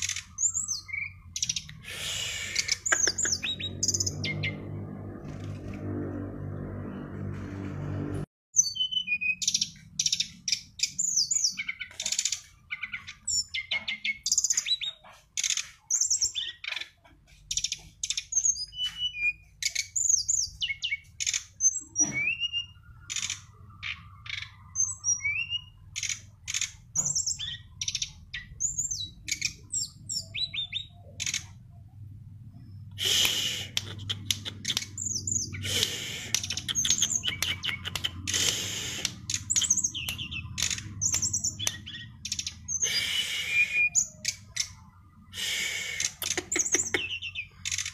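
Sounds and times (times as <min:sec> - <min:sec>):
songbird singing: 0:00.0 - 0:05.5, 0:08.6 - 0:47.9.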